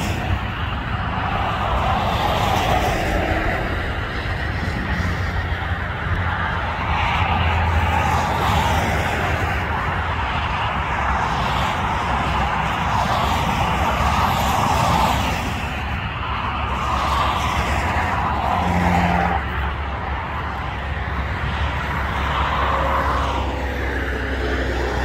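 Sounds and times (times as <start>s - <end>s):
low traffic rumble: 0.0s - 25.0s
vehicles passing: 0.0s - 25.0s.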